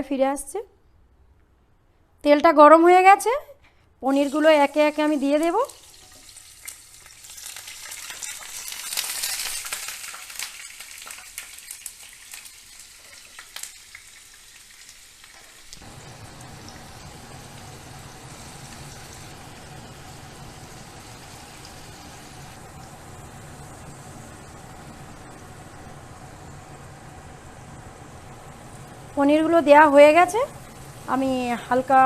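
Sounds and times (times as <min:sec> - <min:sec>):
food sizzling in hot oil: 0:04.1 - 0:32.0.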